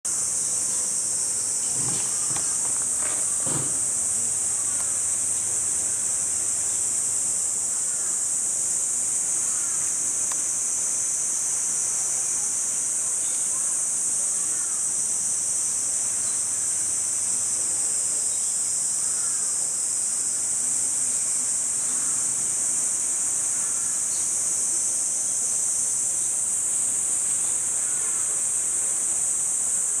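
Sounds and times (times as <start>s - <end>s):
cicadas buzzing: 0.1s - 30.0s.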